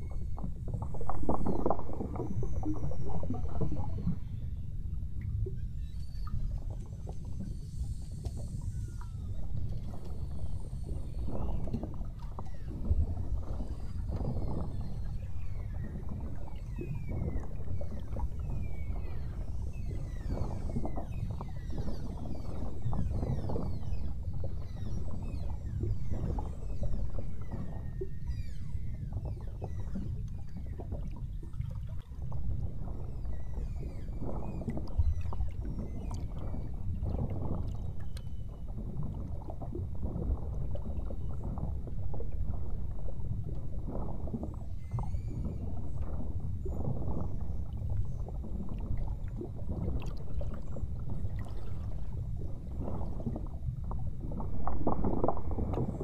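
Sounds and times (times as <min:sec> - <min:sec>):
whales whistling and chirping: 0:00.0 - 0:04.8, 0:05.4 - 0:56.0
rumble of water and boat: 0:00.0 - 0:56.0.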